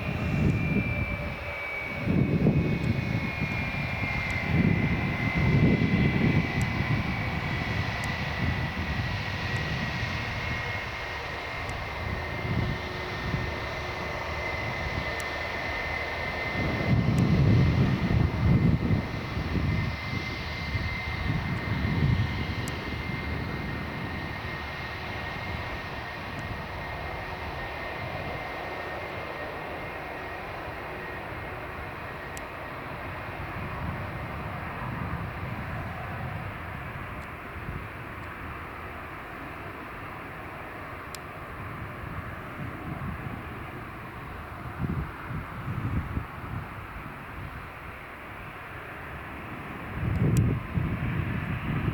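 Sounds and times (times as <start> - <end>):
jet engine high whine: 0.0 - 51.9.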